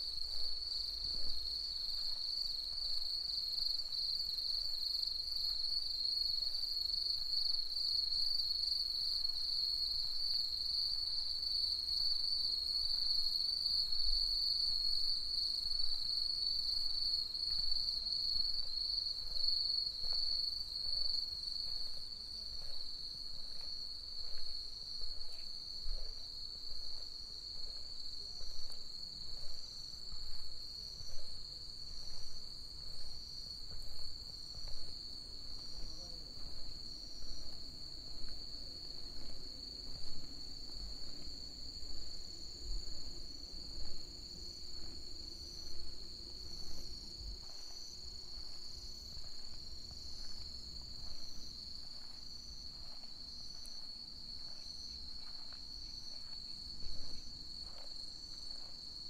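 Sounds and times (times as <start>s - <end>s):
footsteps on a path: 0.0s - 59.0s
insect chirps: 0.0s - 59.0s.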